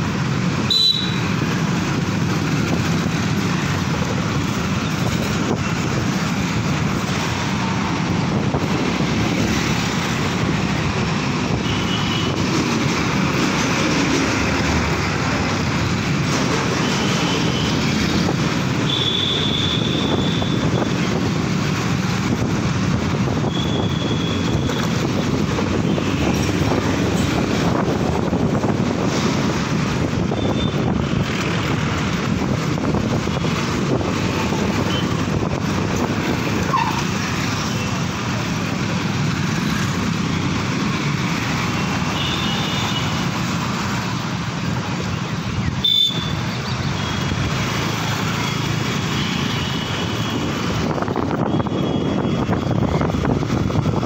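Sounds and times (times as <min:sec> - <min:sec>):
traffic engine and tyre rumble: 0:00.0 - 0:54.0.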